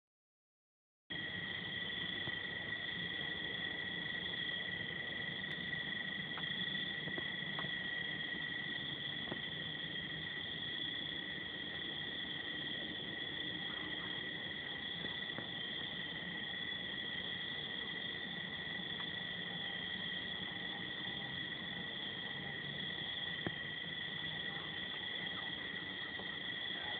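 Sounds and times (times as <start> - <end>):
crickets trilling: 1.1 - 26.9.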